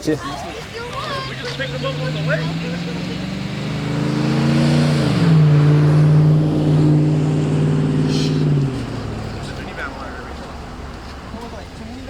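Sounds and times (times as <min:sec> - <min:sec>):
car engine and exhaust drone: 0:00.0 - 0:12.0.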